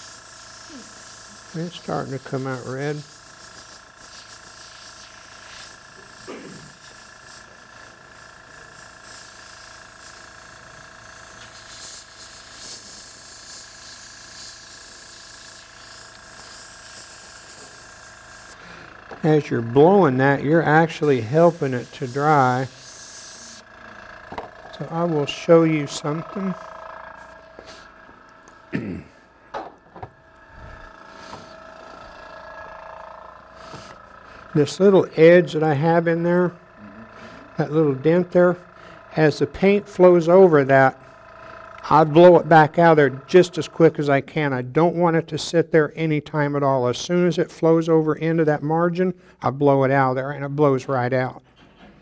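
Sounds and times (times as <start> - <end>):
airbrush hissing spurts: 0.0 - 44.5
steady hum: 0.0 - 50.6.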